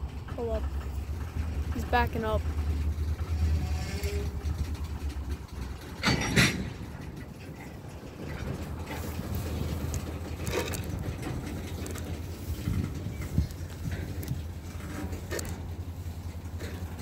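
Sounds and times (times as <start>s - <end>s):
freight cars rolling: 0.0s - 17.0s.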